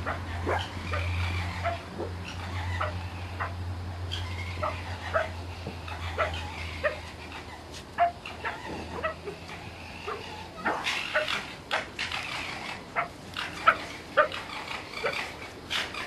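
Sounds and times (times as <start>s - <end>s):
fox yelping: 0.0s - 16.0s.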